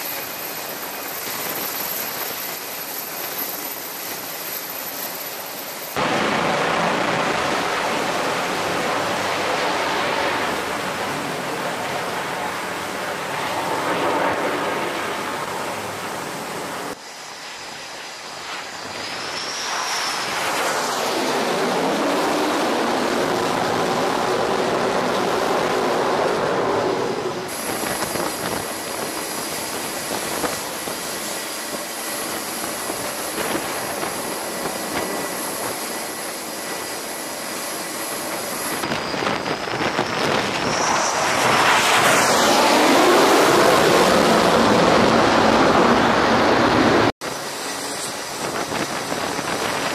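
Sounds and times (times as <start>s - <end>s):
jet engine whine: 0.0s - 49.9s
jet launching at full power: 0.0s - 49.9s
jet passing: 0.0s - 49.9s.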